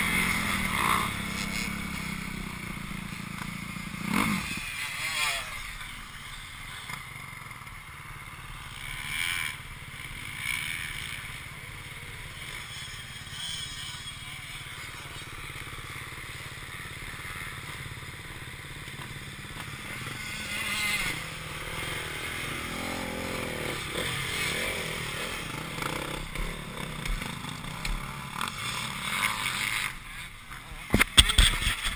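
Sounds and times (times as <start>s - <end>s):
motorcycle engines running: 0.0s - 31.9s.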